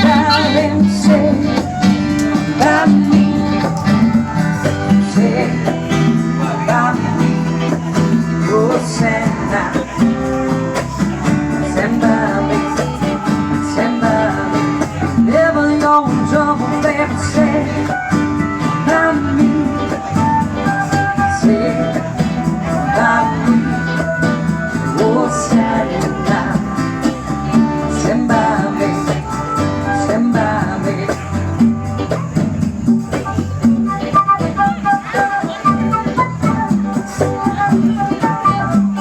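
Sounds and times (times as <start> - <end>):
guitar playing: 0.0 - 39.0
live instrumental band music: 0.0 - 39.0.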